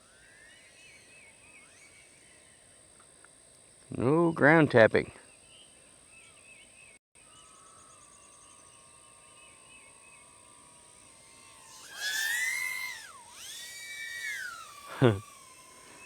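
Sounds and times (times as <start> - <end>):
tiny drone motors whining: 0.0 - 4.2, 7.2 - 16.0.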